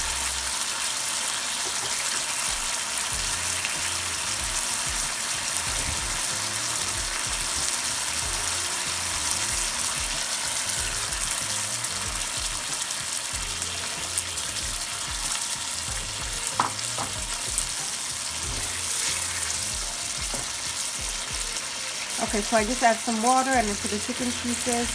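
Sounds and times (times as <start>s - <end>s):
chicken sizzling in oil: 0.0s - 24.9s.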